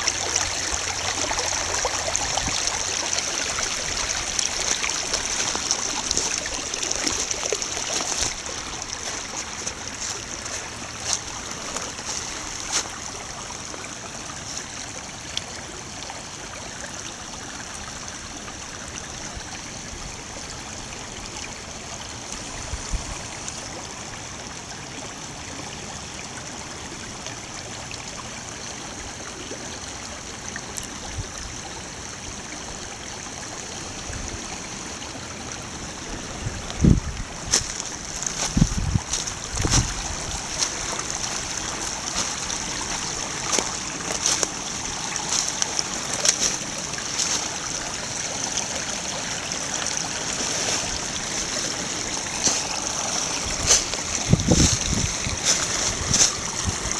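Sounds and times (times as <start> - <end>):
brook babbling over gravel: 0.0 - 56.9.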